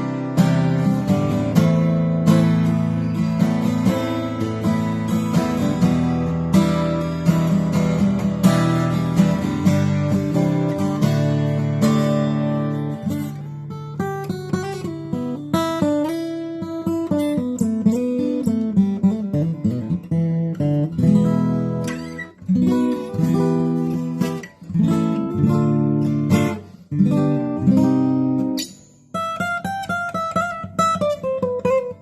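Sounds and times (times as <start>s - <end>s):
acoustic guitar playing: 0.0s - 32.0s.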